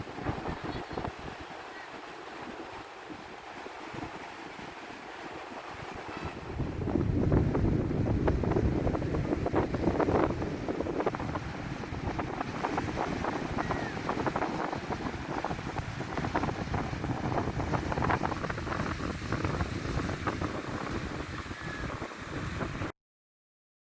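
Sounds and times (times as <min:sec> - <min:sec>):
sea waves washing: 0:00.0 - 0:22.9
wind buffeting microphone: 0:00.0 - 0:22.9.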